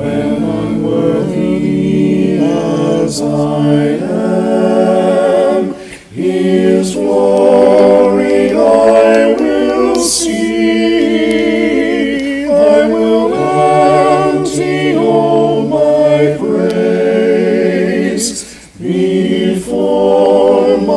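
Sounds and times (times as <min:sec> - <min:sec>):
a cappella hymn singing: 0:00.0 - 0:20.9.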